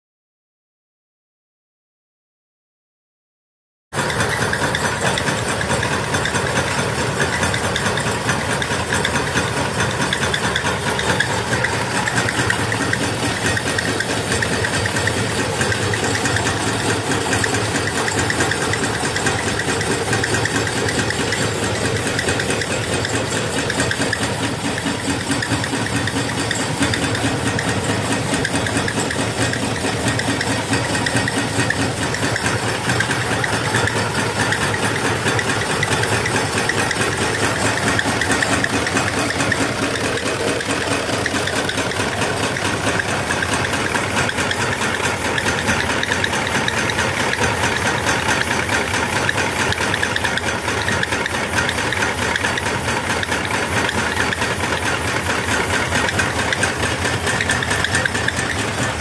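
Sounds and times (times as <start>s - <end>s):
stirling engine clattering: 4.0s - 59.0s.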